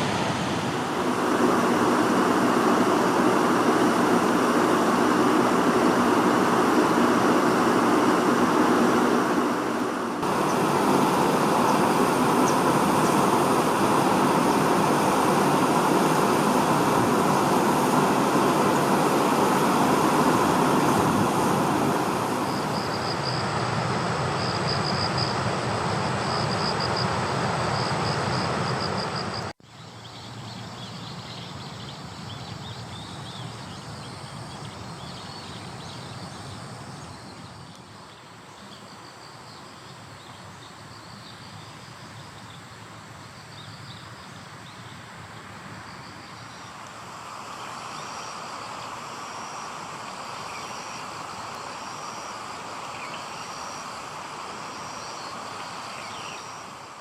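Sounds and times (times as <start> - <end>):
insects chirping: 0.0 - 57.0
steady outdoor noise: 0.0 - 57.0.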